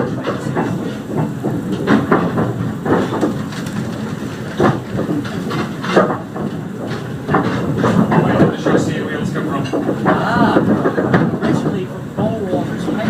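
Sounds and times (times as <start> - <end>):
train carriage rumbling: 0.0 - 13.0
wheels clicking over rail joints: 0.0 - 13.0.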